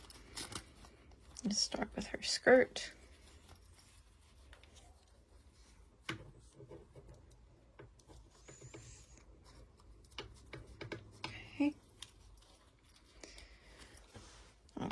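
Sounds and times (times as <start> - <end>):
soft rubbing of fabric: 0.0 - 14.9.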